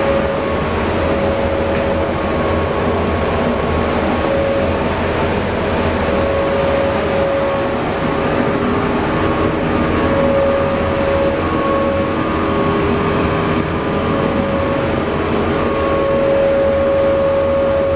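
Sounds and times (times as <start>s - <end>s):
machine mechanical hum: 0.0s - 17.9s
mid-pitched machine tone: 0.0s - 17.9s.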